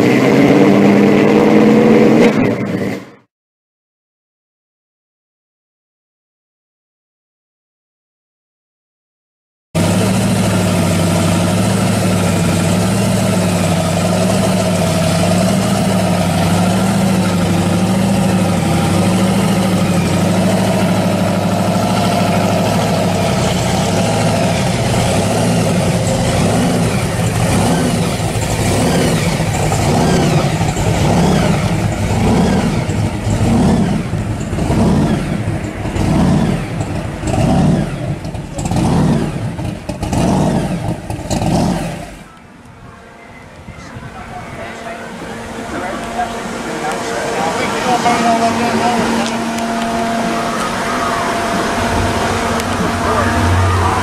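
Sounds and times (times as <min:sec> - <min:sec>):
car engine idling and revving: 0:00.0 - 0:03.3, 0:09.8 - 0:54.0.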